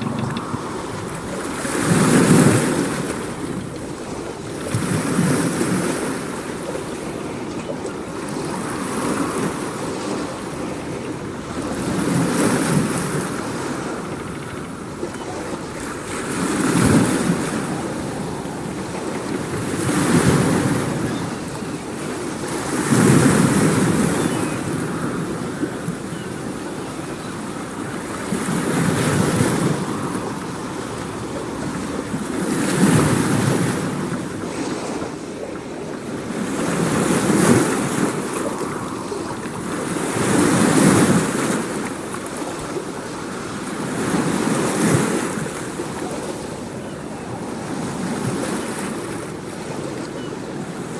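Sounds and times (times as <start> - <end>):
waves washing in: 0.0 - 50.9.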